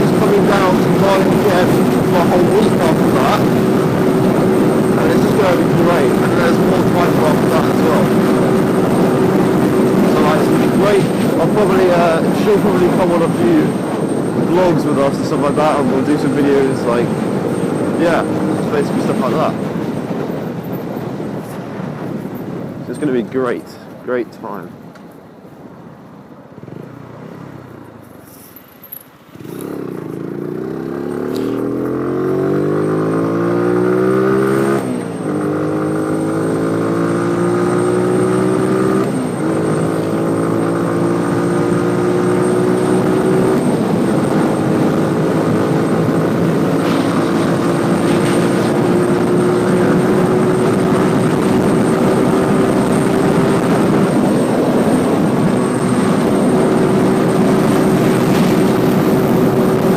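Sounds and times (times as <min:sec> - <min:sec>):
motorcycle engine accelerating: 0:00.0 - 0:20.4, 0:29.2 - 0:59.9.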